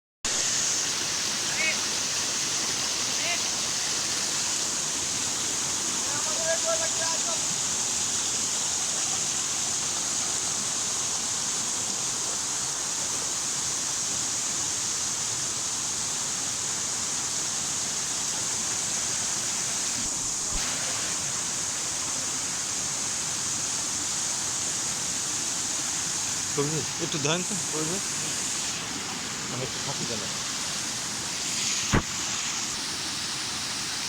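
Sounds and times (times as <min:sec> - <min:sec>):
waterfall rushing: 0:00.3 - 0:34.0.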